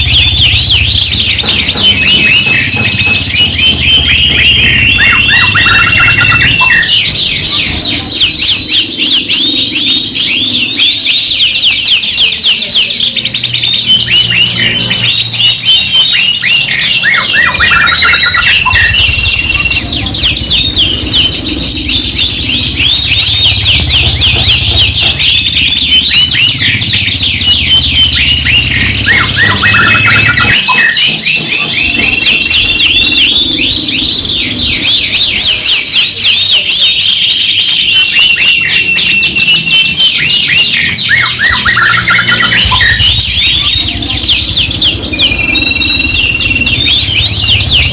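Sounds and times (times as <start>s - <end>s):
canaries singing: 0.0s - 47.9s.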